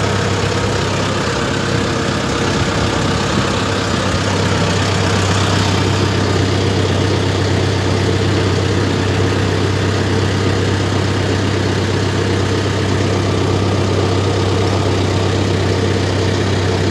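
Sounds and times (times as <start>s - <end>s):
tractor diesel engine humming: 0.0s - 16.9s.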